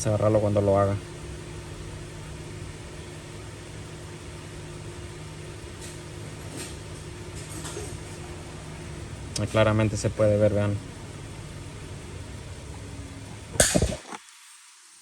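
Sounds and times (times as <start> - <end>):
engine idling with misfires: 0.0 - 14.2.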